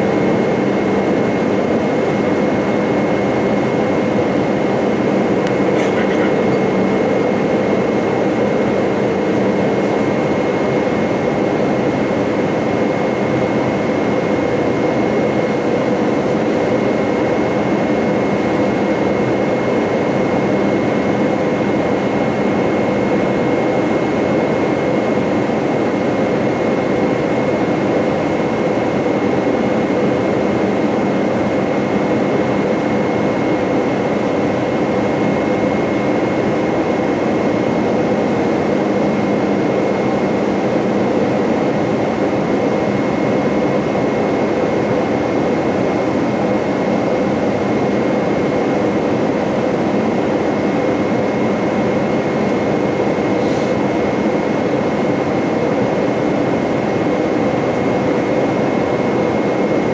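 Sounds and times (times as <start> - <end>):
jet engine and airflow rush: 0.0 - 59.9.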